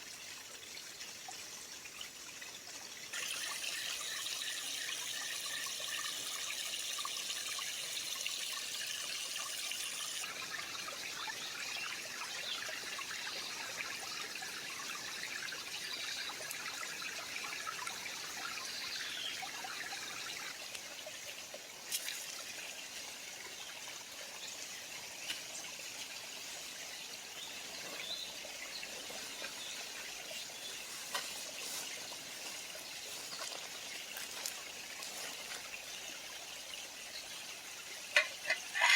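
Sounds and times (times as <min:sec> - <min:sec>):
creek water over stones: 0:00.0 - 0:38.9.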